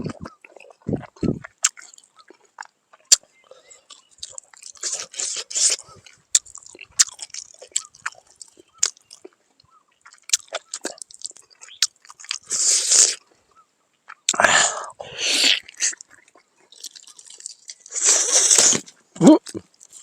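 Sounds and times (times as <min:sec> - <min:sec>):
person chewing food: 0:00.0 - 0:13.4, 0:14.0 - 0:20.0.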